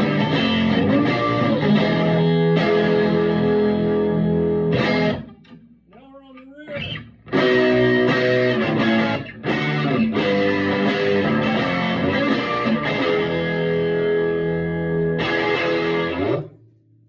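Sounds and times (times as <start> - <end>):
electric guitar chords strummed: 0.0 - 5.8, 6.7 - 16.7.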